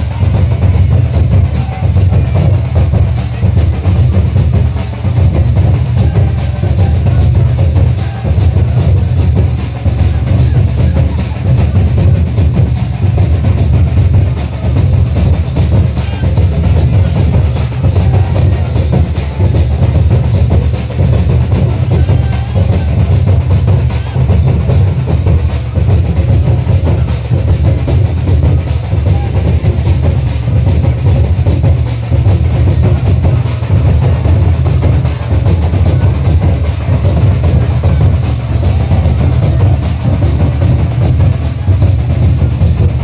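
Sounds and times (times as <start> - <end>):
dance music with fast drumming: 0.0 - 43.0.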